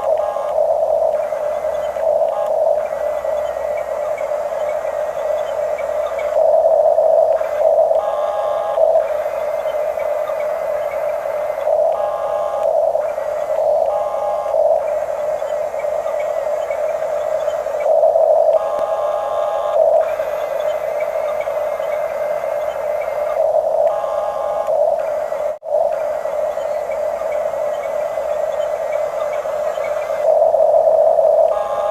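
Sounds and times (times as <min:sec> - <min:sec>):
electric motors whining: 0:00.0 - 0:31.9
higher-pitched motor whines: 0:00.0 - 0:31.9.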